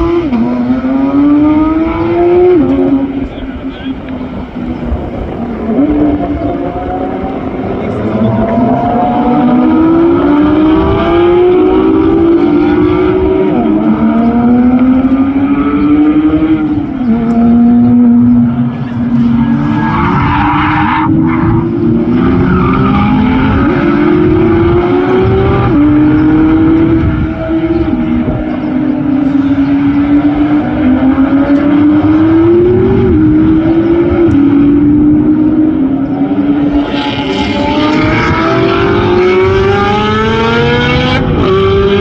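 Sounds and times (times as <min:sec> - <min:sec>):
supercar engine accelerating: 0:00.0 - 0:42.0.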